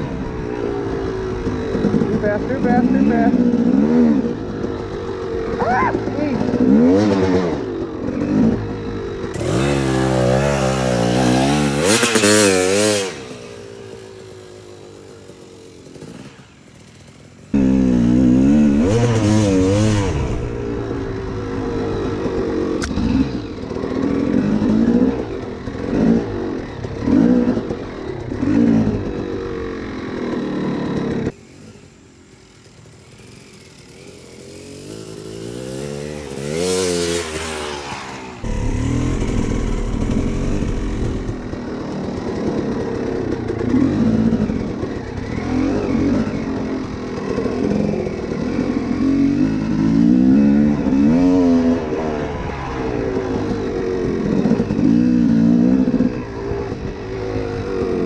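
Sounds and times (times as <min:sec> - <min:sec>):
dirt bike engine revving: 0:00.0 - 0:31.8, 0:32.8 - 0:58.0.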